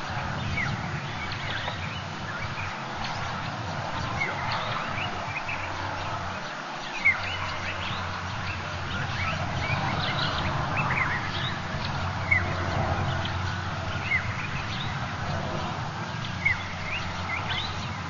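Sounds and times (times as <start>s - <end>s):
high chirping calls: 0.0s - 15.1s, 16.0s - 18.0s.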